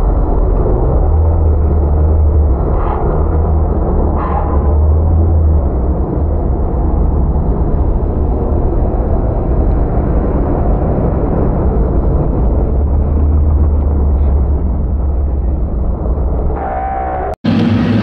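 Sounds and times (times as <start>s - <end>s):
racing truck engines rumbling: 0.0s - 18.0s.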